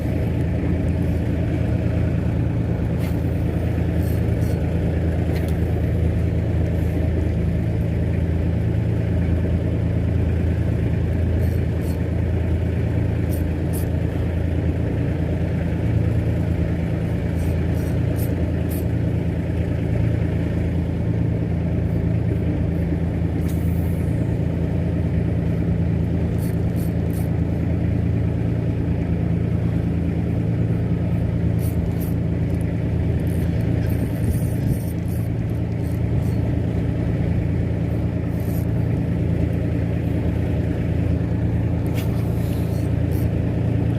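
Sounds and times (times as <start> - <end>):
boat engine droning: 0.0 - 43.9.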